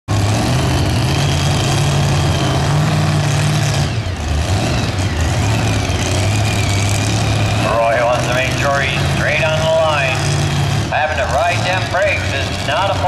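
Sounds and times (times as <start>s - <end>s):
supercharged engine idling: 0.1s - 13.0s.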